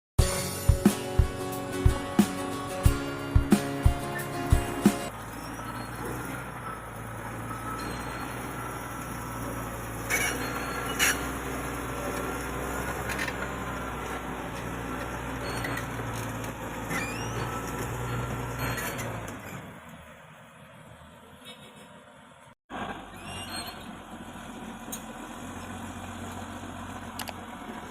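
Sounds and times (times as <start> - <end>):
heavy diesel engine running: 0.2 - 21.3, 22.7 - 27.9.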